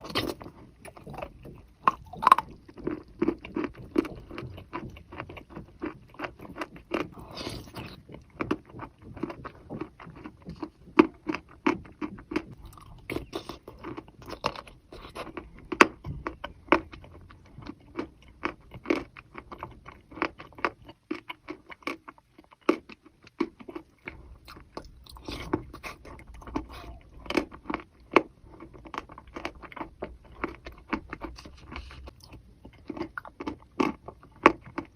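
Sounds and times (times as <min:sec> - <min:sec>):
chewing crunchy chalk: 0:00.0 - 0:34.9.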